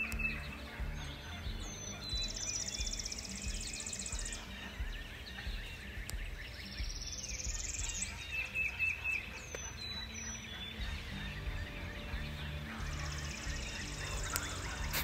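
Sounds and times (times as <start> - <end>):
bird chirps: 0.0 - 15.0
bird trill: 0.0 - 15.0.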